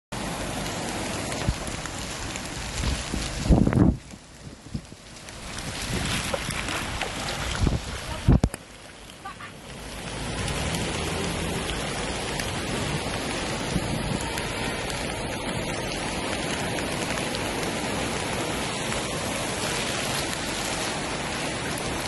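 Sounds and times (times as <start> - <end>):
river water rushing: 0.2 - 4.4, 5.1 - 22.0.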